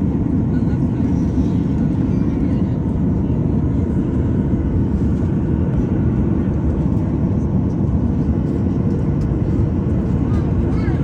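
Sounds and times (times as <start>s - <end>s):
air-conditioning: 0.0s - 11.0s
jet engines idling: 0.0s - 11.0s.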